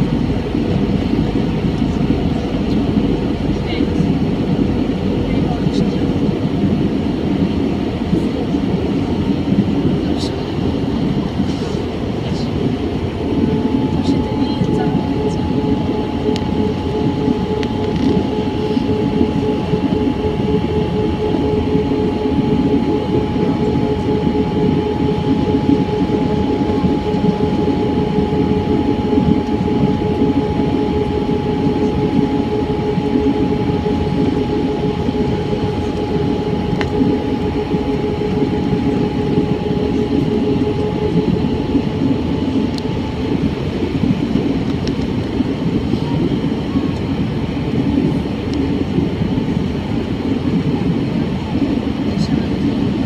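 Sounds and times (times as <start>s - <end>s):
airflow and engine noise: 0.0s - 53.0s
higher hum: 0.0s - 53.0s
low hum: 0.0s - 53.0s.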